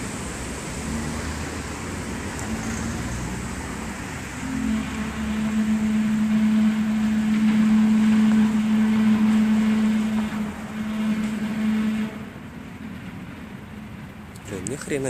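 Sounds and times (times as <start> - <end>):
tractor scraping along street: 0.0 - 15.0.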